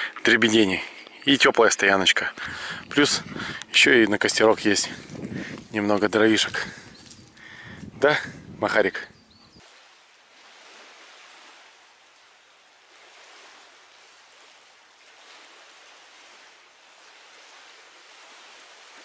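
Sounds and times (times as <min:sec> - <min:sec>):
soft outdoor hiss: 0:00.0 - 0:19.0.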